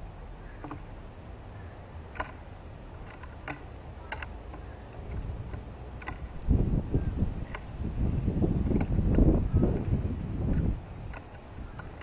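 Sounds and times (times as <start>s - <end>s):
low steady rumble: 0.0s - 12.0s
bird bills pecking on wood: 0.4s - 0.9s, 2.0s - 12.0s.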